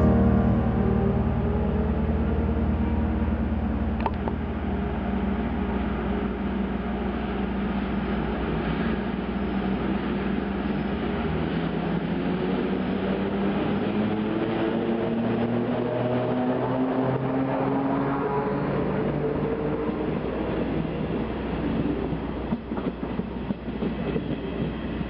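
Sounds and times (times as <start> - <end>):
train rumbling with low hum: 0.0 - 25.0.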